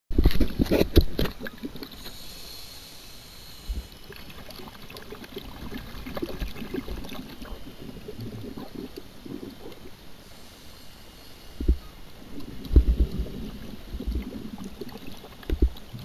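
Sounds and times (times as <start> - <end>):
underwater crackling and gurgling: 0.1 - 2.6, 3.6 - 10.4, 11.4 - 16.0.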